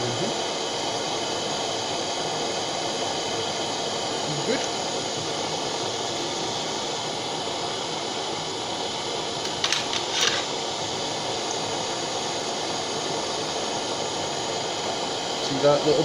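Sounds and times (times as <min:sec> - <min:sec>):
blowtorch flame hissing: 0:00.0 - 0:16.0.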